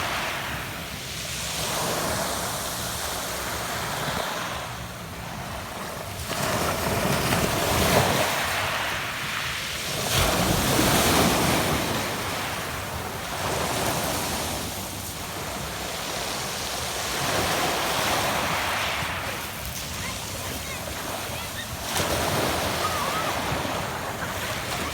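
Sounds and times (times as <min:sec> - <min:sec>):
waves washing onto pebble beach: 0:00.0 - 0:04.8, 0:06.2 - 0:24.9.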